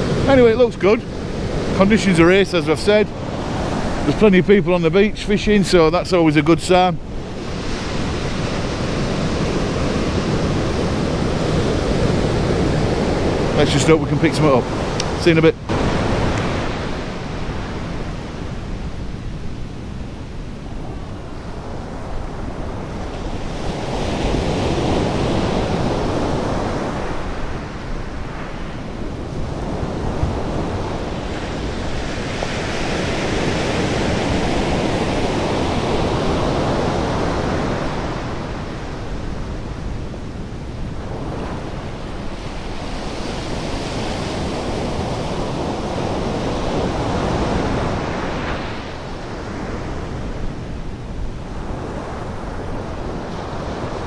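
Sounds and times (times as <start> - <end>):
surf breaking on a beach: 0.0 - 54.0.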